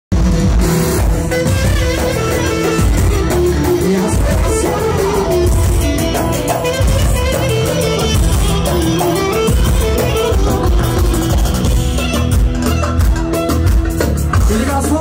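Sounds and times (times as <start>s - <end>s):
live band playing instrumental music: 0.1s - 15.0s.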